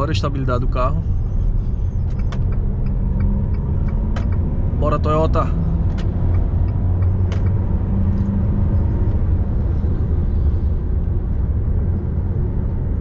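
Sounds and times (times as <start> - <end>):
pickup engine rumble inside cab: 0.0 - 13.0.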